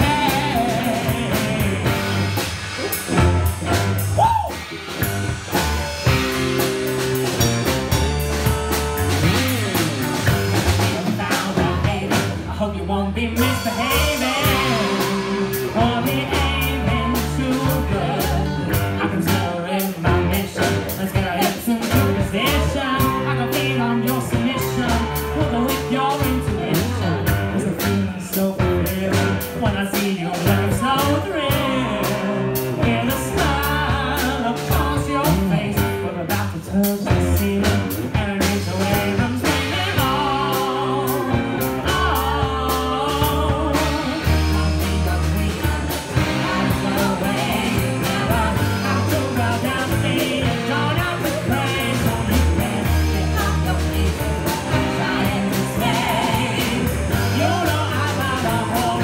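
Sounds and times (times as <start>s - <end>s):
woman singing lead: 0.0s - 8.2s, 8.8s - 59.0s
drum kit: 0.0s - 59.0s
electric bass: 0.0s - 59.0s
electric guitar: 0.0s - 59.0s.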